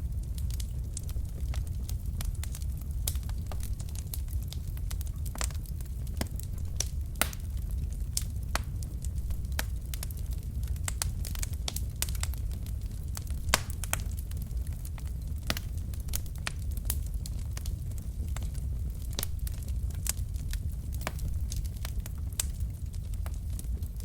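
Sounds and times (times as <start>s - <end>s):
logs crackling and popping: 0.0s - 24.0s
wood fire burning: 0.0s - 24.0s.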